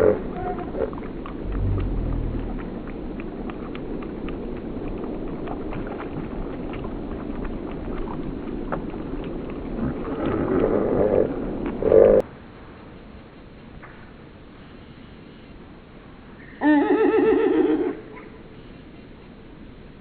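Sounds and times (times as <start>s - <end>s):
low noisy haze: 0.0s - 20.0s.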